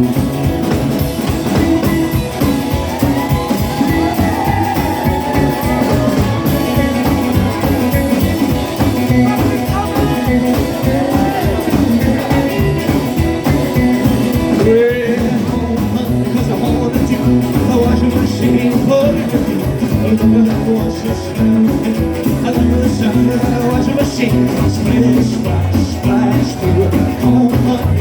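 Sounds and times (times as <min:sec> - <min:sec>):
electric guitar: 0:00.0 - 0:28.0
rockabilly band playing live: 0:00.0 - 0:28.0
person singing: 0:02.4 - 0:28.0.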